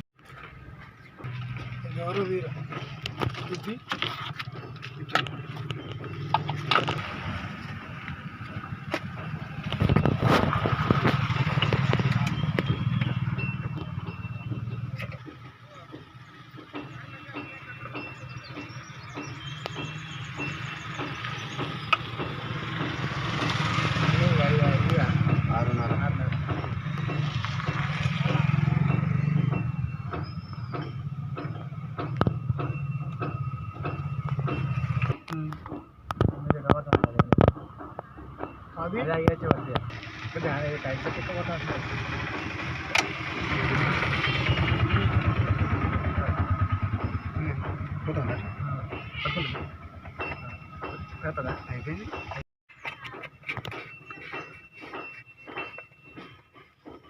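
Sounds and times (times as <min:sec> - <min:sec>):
diesel tractor engine running: 0:00.2 - 0:57.0.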